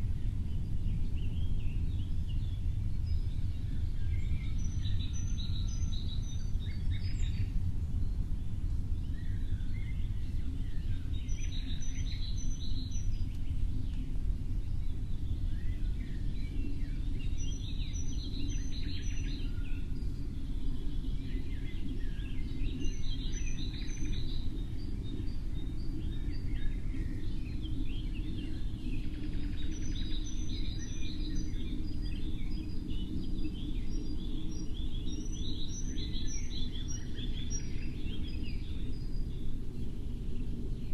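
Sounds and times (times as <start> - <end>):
birds singing: 0.0 - 40.9.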